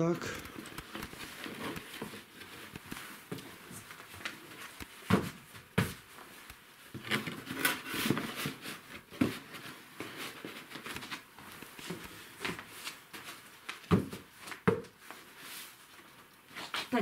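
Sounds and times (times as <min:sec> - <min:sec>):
paper booklets rustling: 0:00.3 - 0:16.2.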